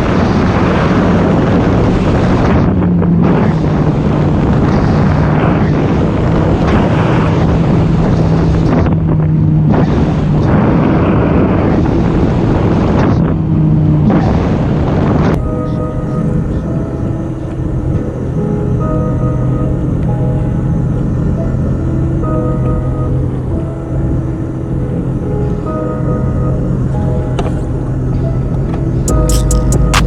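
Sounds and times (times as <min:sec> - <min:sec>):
jet ski engine drone: 0:00.0 - 0:29.1
wind buffeting microphone: 0:00.0 - 0:30.0.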